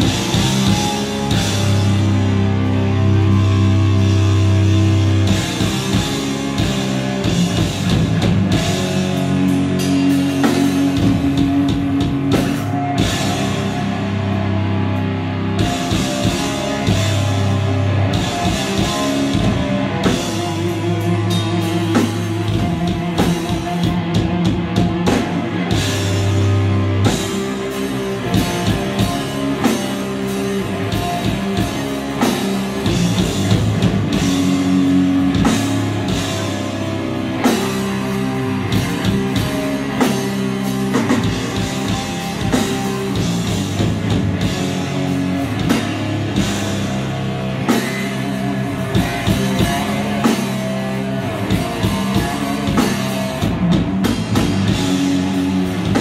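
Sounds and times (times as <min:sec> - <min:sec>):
distorted electric guitars: 0:00.0 - 0:56.0
drum kit with crashing cymbals: 0:00.0 - 0:56.0.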